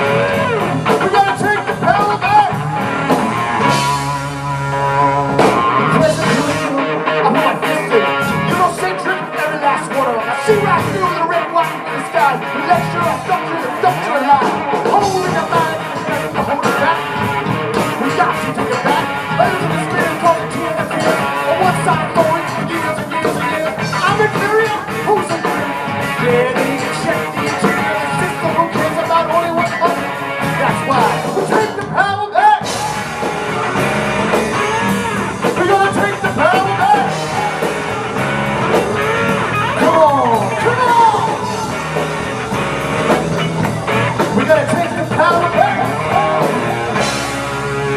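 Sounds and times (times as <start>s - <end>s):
electric guitar: 0.0s - 47.9s
person singing: 0.0s - 47.9s
rock band playing: 0.0s - 47.9s.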